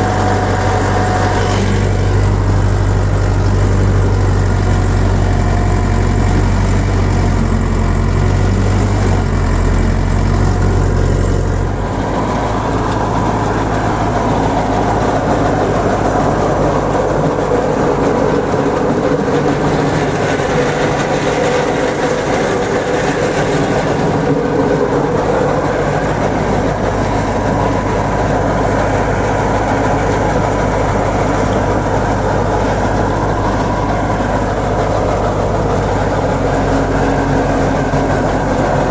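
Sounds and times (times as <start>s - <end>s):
digger running: 0.0s - 38.9s
tractor diesel engine: 0.0s - 38.9s.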